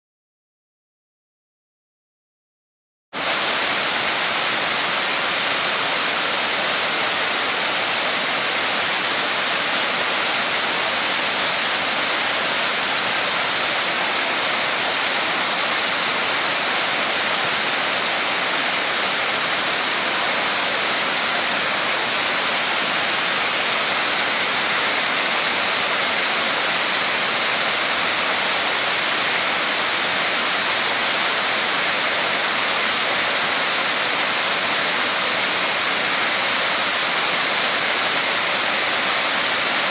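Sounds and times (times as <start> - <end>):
waterfall pouring over rocks: 3.2 - 39.9.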